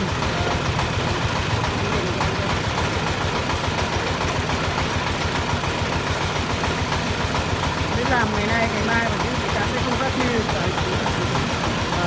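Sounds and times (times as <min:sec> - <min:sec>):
drilling rig engine running: 0:00.0 - 0:12.0.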